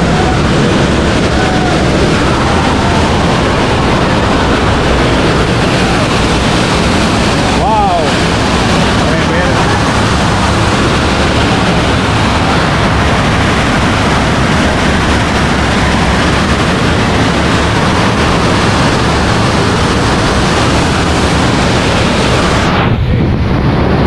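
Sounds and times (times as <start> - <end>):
water rushing and swirling: 0.0 - 23.9.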